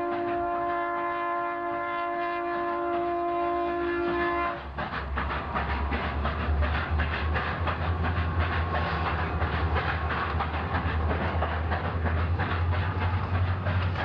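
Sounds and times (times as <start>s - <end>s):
steam locomotive working hard: 0.0s - 14.0s.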